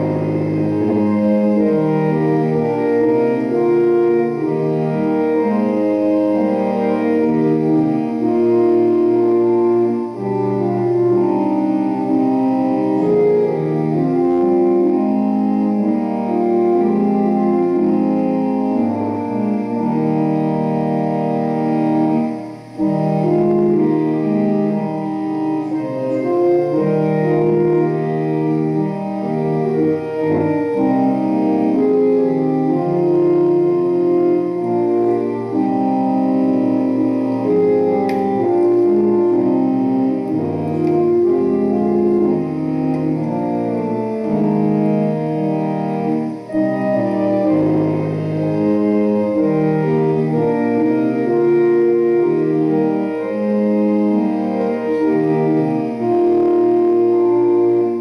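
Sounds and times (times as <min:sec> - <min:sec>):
church organ playing hymn: 0:00.0 - 0:58.0.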